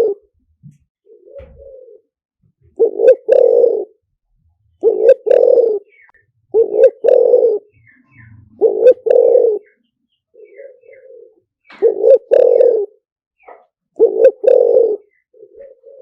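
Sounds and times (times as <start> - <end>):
dove cooing: 0.0 - 0.3, 1.1 - 4.1, 4.8 - 16.0.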